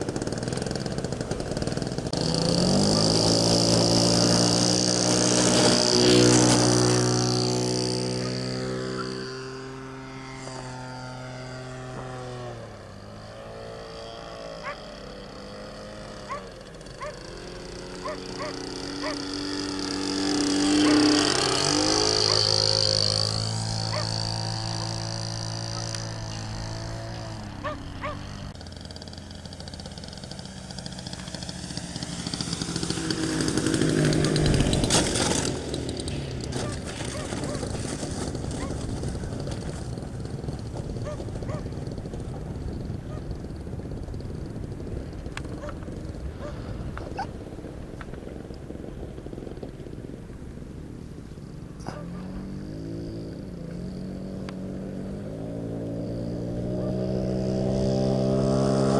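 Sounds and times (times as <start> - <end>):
model airplane motor whining: 0.0 - 57.7.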